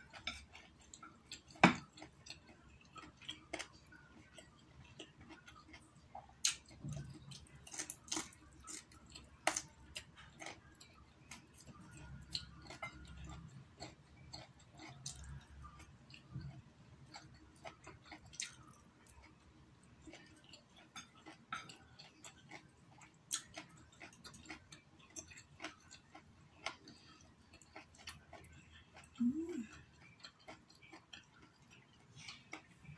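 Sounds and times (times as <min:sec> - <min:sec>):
person chewing noodles: 0:00.0 - 0:32.9.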